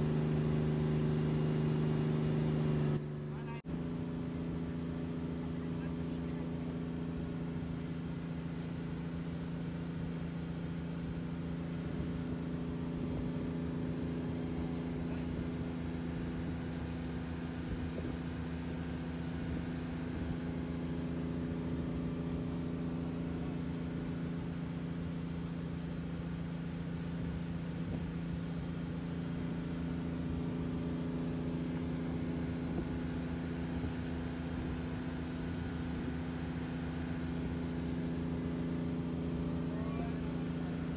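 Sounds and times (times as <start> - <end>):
boat engine humming: 0.0 - 40.9
hiss of boat wake: 0.0 - 40.9.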